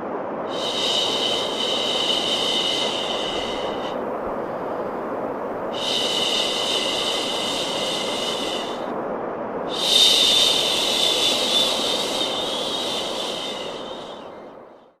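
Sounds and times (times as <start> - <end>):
steady white noise: 0.0 - 15.0.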